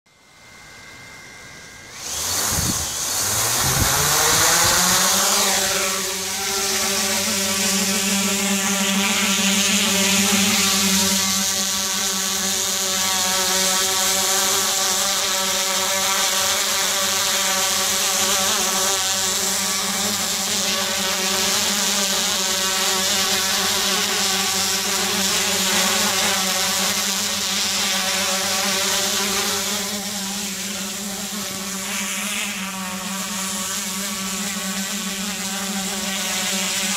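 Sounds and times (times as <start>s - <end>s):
quadcopter motors and propellers humming: 0.1s - 36.9s.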